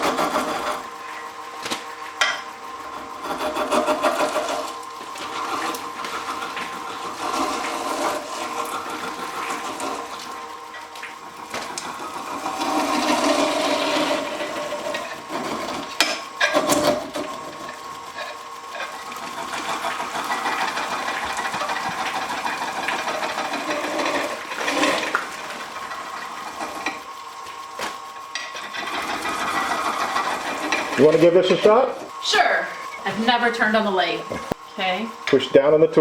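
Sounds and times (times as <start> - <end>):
tool scraping wet fruit: 0.0 - 32.2
wood lathe motor whine: 0.0 - 36.0.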